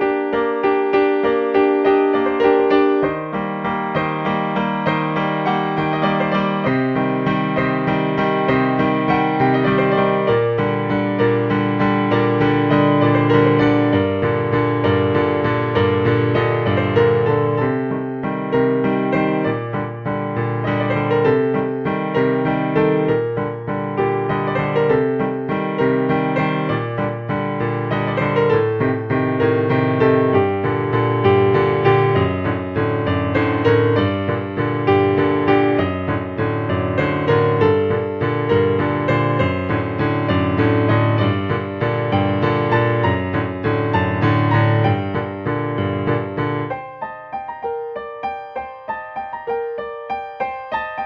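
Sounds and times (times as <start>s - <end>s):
piano music: 0.0s - 51.0s.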